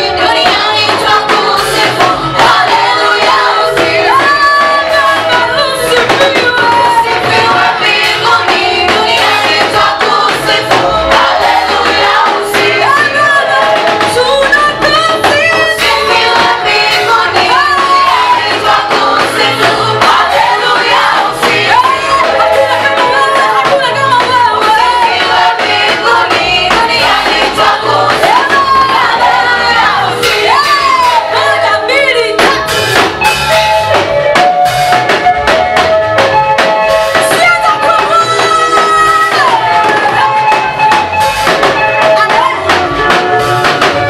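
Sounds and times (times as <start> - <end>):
choir singing gospel song: 0.0 - 44.0
instrumental accompaniment with beat: 0.0 - 44.0.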